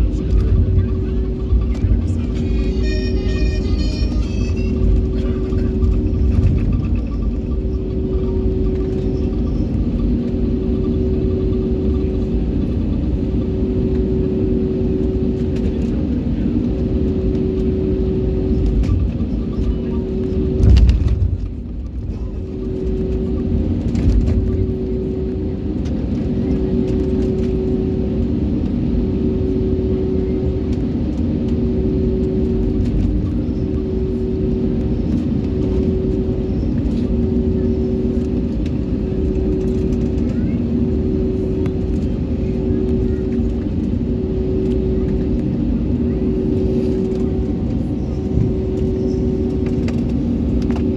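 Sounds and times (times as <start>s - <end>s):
airliner cabin rumble: 0.0s - 50.9s
humming tone: 0.0s - 50.9s.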